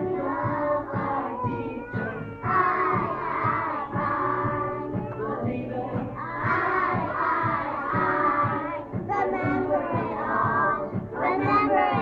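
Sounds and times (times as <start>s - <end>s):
children singing together: 0.0s - 12.0s
musical accompaniment with beat: 0.0s - 12.0s.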